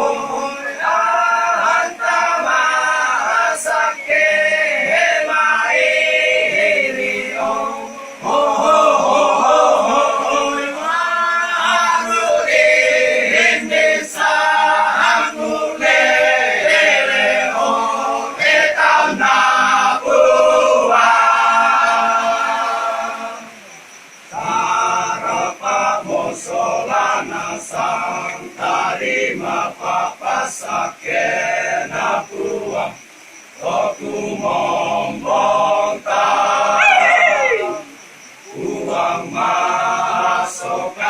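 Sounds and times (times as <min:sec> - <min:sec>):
choir singing a cappella: 0:00.0 - 0:41.0.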